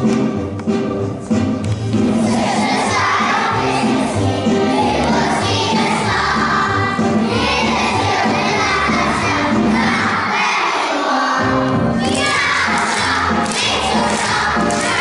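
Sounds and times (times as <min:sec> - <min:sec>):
backing music with bass line: 0:00.0 - 0:10.3, 0:11.4 - 0:15.0
children singing and shouting: 0:01.9 - 0:15.0.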